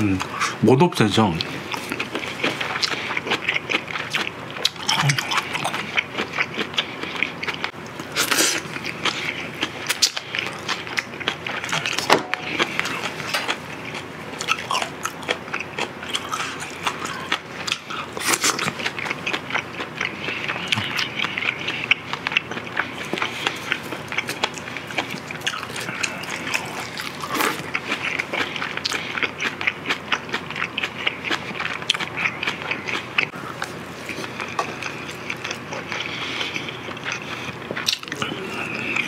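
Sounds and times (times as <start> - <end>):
person chewing food: 1.3 - 39.0.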